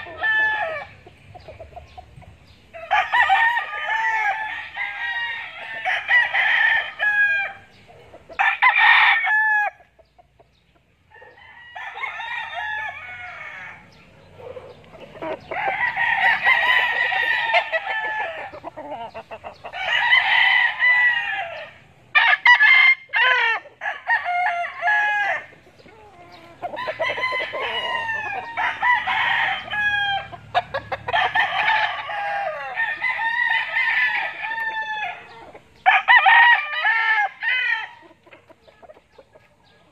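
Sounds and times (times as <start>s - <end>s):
roosters crowing: 0.0s - 1.5s, 2.5s - 10.0s, 11.0s - 39.9s.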